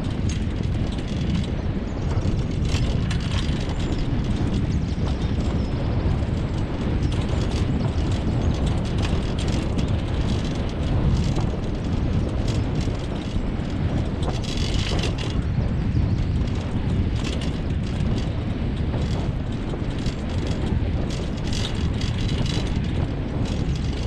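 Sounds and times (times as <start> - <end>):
wheels rumbling on dirt track: 0.0 - 24.0.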